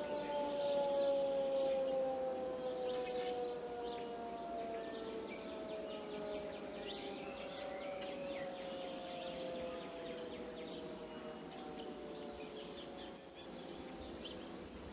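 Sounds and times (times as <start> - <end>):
birds chirping: 0.0 - 14.9
warning siren winding down: 0.0 - 14.9.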